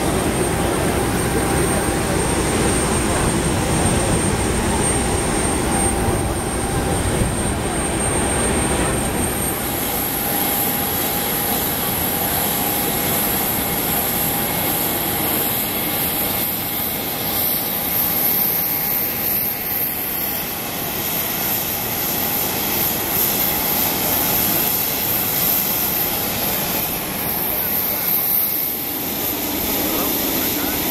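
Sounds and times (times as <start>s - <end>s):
jet turbine engine whine: 0.0s - 30.9s.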